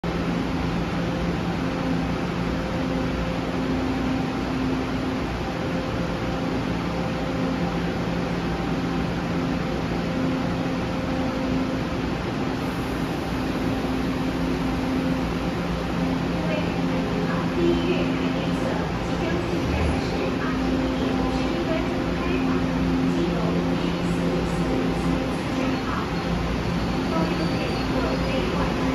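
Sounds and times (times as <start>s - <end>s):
electric train hum and rumble: 0.0s - 28.9s.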